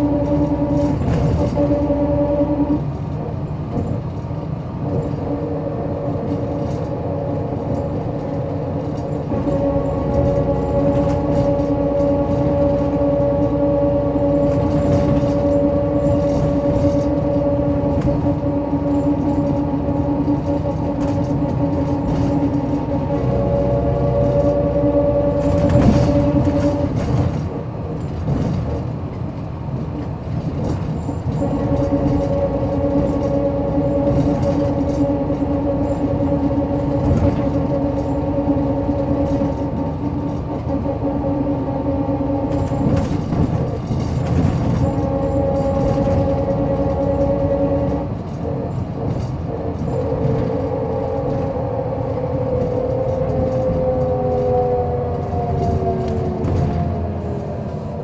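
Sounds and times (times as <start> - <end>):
bus engine hum: 0.0 - 58.0
road rumble: 0.0 - 58.0.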